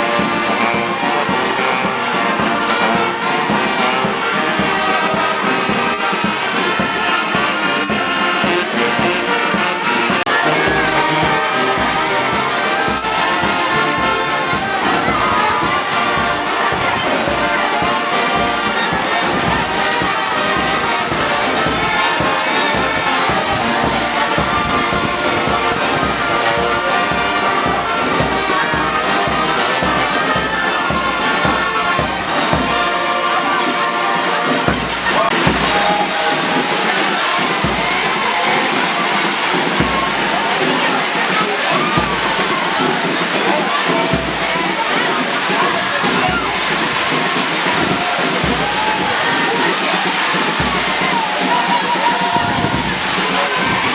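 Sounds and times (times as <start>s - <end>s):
brass band playing march: 0.0s - 53.9s.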